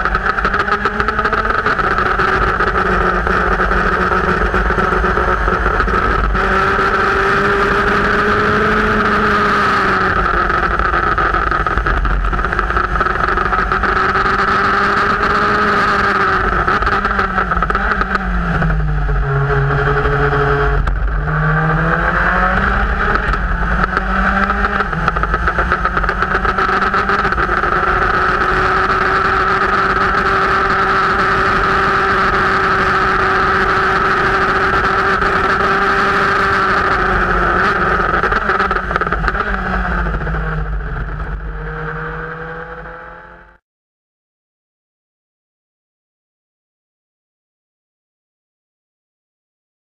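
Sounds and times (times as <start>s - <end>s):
race car engine revving: 0.0s - 43.6s
wind and road noise: 0.0s - 43.6s.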